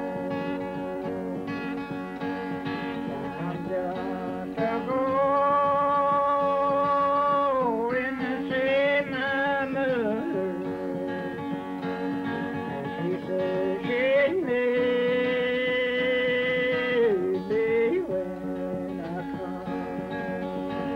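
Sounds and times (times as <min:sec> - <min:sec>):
acoustic guitar: 0:00.0 - 0:20.9
man singing ballad: 0:03.0 - 0:11.6, 0:12.4 - 0:20.9.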